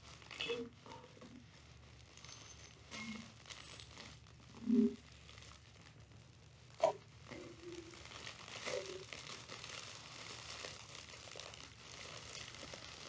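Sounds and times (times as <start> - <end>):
plastic mailer crinkling: 0.0 - 13.0.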